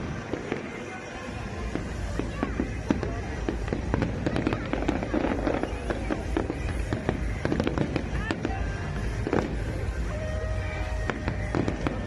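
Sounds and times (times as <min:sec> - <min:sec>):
fireworks bangs and crackles: 0:00.0 - 0:12.0
music: 0:00.0 - 0:12.0
voices: 0:00.0 - 0:12.0.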